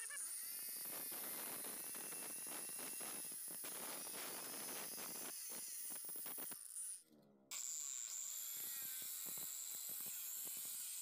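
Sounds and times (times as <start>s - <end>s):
tile saw cutting ceramic tile: 0.0s - 11.0s.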